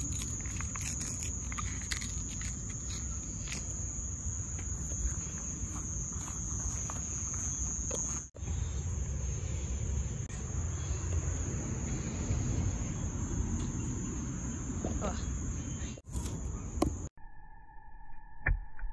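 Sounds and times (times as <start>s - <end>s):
crickets chirping: 0.0s - 18.4s.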